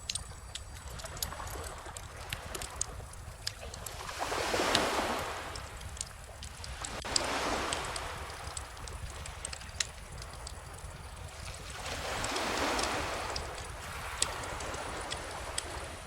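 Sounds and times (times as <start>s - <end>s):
bonfire crackling and popping: 0.0s - 16.0s
ocean waves washing in: 1.1s - 16.0s.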